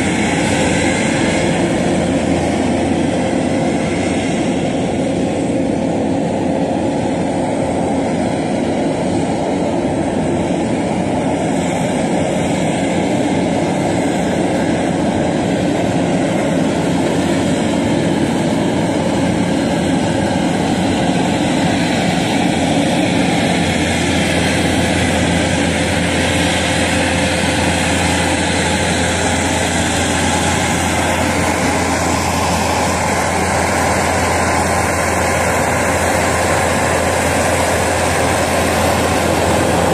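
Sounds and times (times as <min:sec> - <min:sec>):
loader engine running: 0:00.0 - 0:39.9
mechanical drone: 0:00.0 - 0:39.9.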